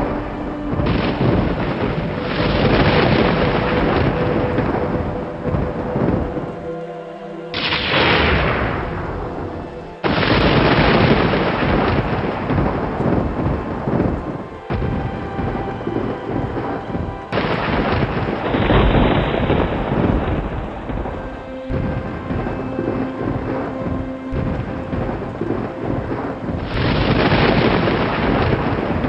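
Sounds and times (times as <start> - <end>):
rain: 0.0 - 29.0
thunder claps and rumble: 0.0 - 29.0.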